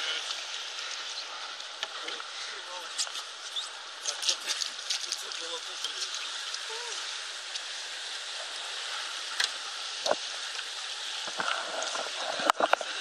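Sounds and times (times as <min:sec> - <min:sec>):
river water rushing and lapping: 0:00.0 - 0:13.0.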